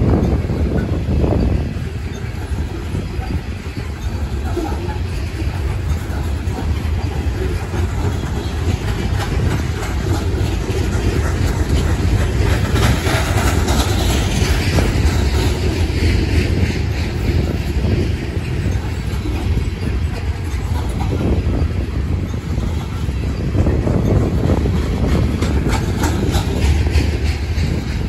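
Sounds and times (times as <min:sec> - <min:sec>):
freight train wheels rumbling: 0:00.0 - 0:28.0
wheels clickety-clack: 0:00.0 - 0:28.0.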